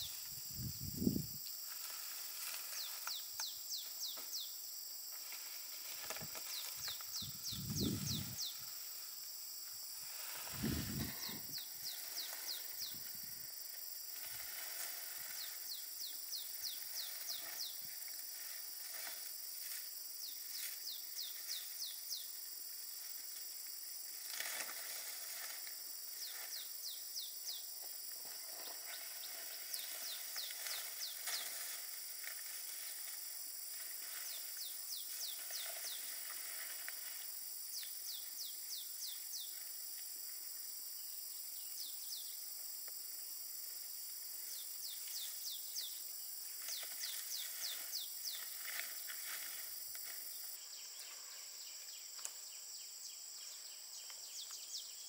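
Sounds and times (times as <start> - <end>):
palm fronds rustling: 0.0 - 40.8, 42.5 - 52.4
insect chorus: 0.0 - 55.0.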